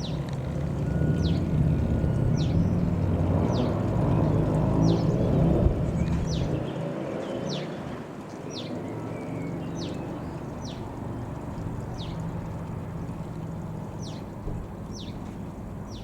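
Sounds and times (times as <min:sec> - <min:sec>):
ultralight aircraft engine drone: 0:00.0 - 0:16.0.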